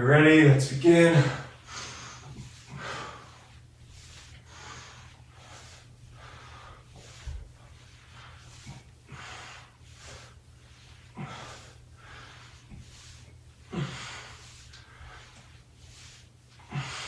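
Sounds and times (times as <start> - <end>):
man breathing hard: 1.1 - 17.0.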